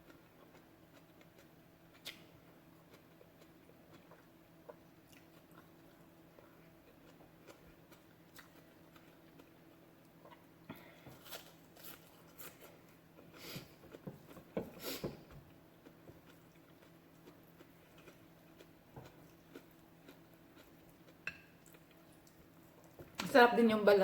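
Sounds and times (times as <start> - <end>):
person chewing food: 0.0 - 23.2.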